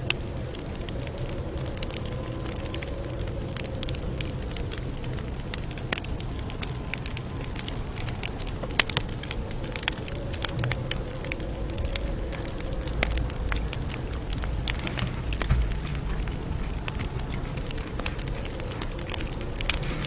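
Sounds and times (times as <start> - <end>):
flames rushing: 0.0 - 20.0.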